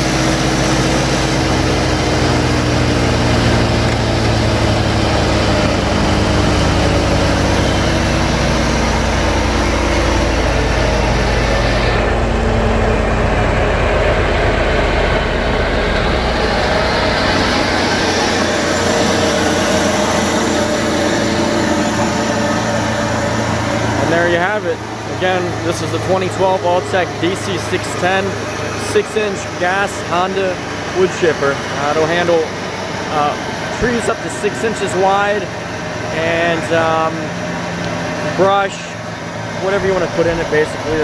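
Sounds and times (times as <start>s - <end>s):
wood chipper engine running: 0.0s - 41.0s.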